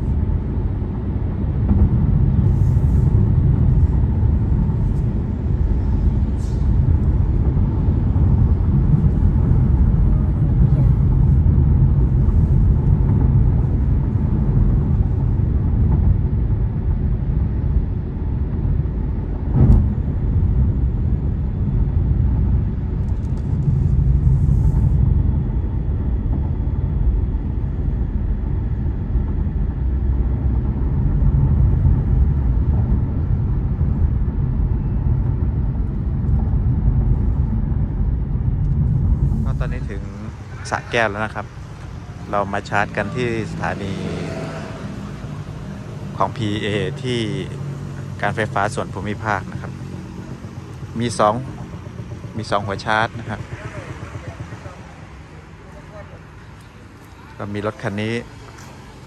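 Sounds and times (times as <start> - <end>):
road and tyre rumble in car: 0.0 - 59.0.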